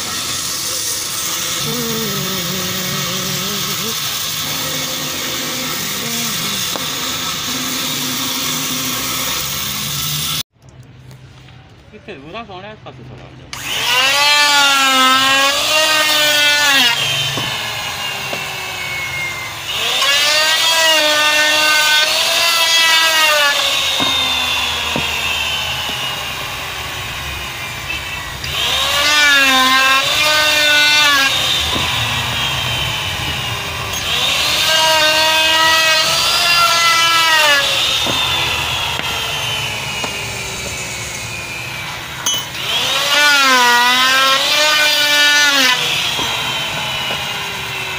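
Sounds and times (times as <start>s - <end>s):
electric router cutting wood: 0.0s - 10.5s, 13.5s - 47.9s.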